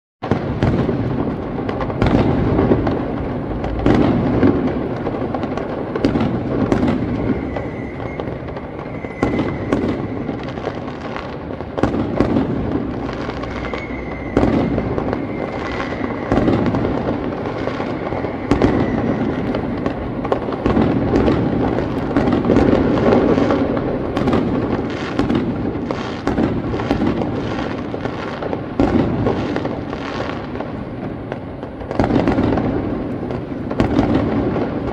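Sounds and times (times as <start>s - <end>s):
fireworks bangs: 0.2s - 34.9s.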